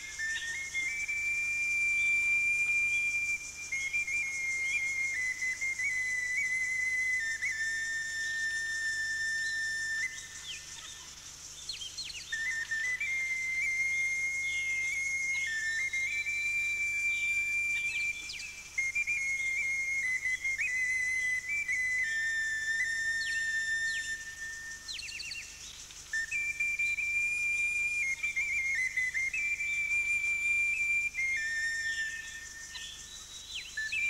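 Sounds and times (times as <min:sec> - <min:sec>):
high whistle-like melody: 0:00.0 - 0:34.0.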